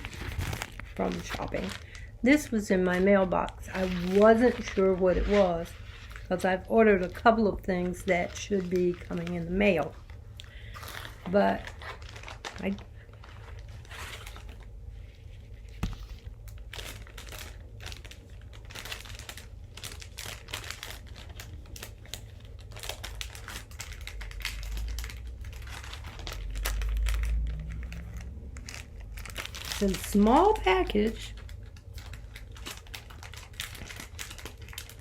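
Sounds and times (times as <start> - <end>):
package crinkling and rustling: 0.0 - 35.0.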